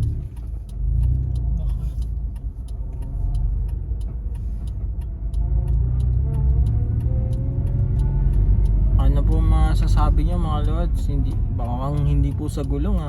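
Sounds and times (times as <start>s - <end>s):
faint regular ticking: 0.0s - 13.0s
low rumbling wheel drone: 0.0s - 13.0s.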